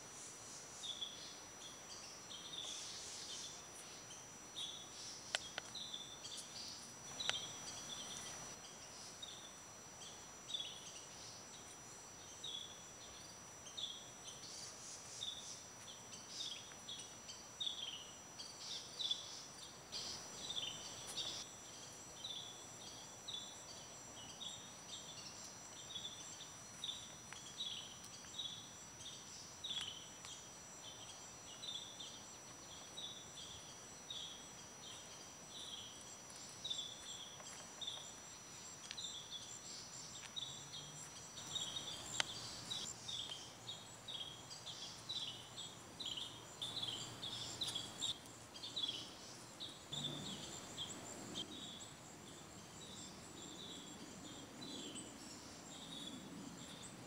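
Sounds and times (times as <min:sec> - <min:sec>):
birds: 0:00.0 - 0:57.0
cricket chirping: 0:00.0 - 0:57.0
high insect trills: 0:00.0 - 0:57.0.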